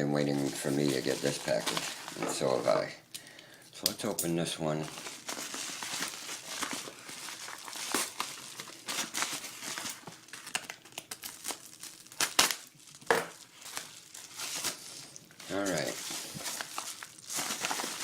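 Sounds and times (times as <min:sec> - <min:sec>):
packaging torn and crumpled: 0:00.2 - 0:02.2, 0:04.8 - 0:18.0.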